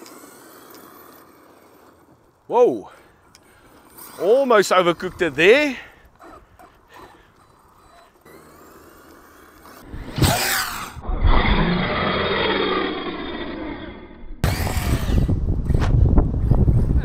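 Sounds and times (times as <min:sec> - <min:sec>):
electric motor whining: 0:03.2 - 0:17.0.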